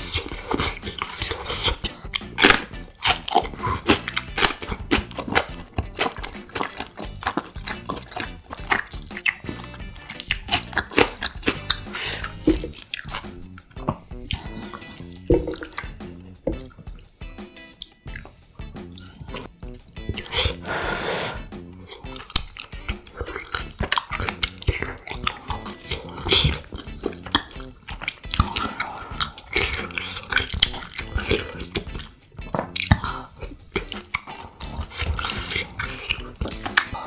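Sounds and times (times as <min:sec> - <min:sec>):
crunchy chewing: 0:00.0 - 0:21.2, 0:21.8 - 0:37.0.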